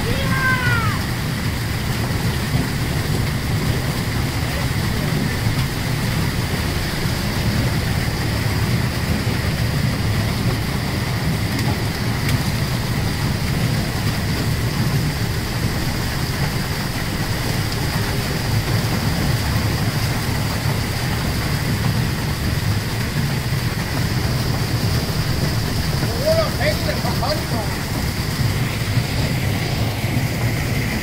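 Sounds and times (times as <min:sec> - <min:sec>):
machinery rumble and whine: 0:00.0 - 0:31.0
running water hissing: 0:00.0 - 0:31.0.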